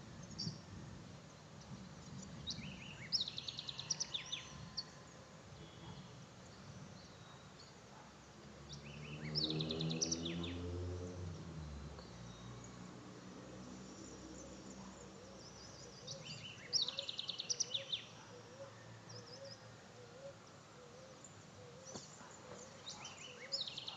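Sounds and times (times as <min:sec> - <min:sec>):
faint outdoor background: 0:00.0 - 0:23.9
songbird singing: 0:00.0 - 0:23.9.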